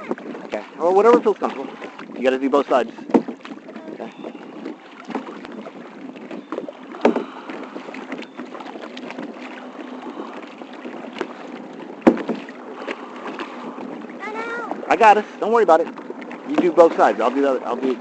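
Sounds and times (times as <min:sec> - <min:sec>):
paddles knocking: 0:00.0 - 0:18.0
water splashing against kayak hull: 0:00.0 - 0:18.0.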